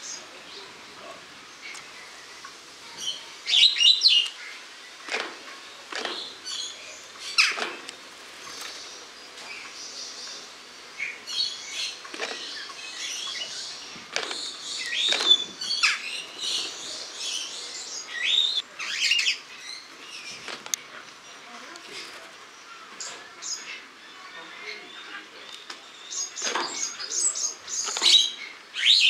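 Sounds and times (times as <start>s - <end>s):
starlings chattering and whistling: 0.0s - 29.0s.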